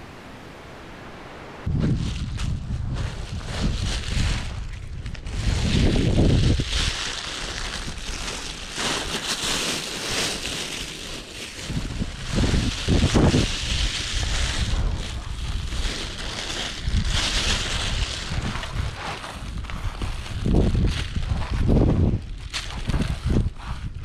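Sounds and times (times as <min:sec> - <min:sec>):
wind buffeting microphone: 0:01.5 - 0:09.1, 0:11.4 - 0:24.0
plastic bag rustling: 0:01.8 - 0:24.0.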